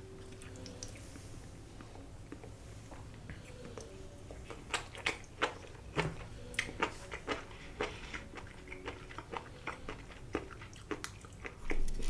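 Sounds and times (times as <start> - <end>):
person chewing with wet mouth smacks: 2.3 - 12.0.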